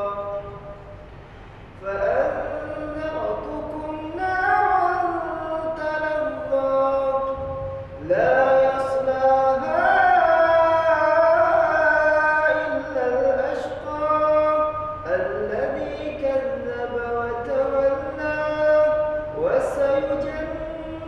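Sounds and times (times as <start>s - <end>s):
man chanting melodic recitation: 0.0s - 0.9s, 1.8s - 21.0s.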